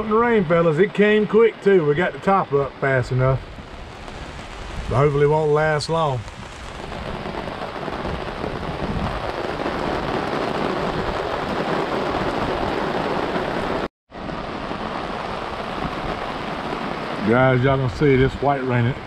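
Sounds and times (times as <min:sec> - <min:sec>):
rain on a boat canopy: 0:00.0 - 0:19.0.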